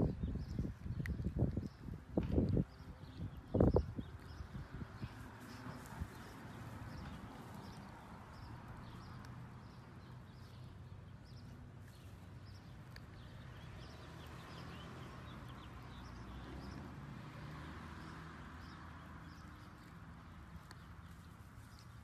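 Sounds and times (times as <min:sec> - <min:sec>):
faint outdoor background noise: 0:00.0 - 0:22.0
small birds chirping: 0:00.0 - 0:22.0.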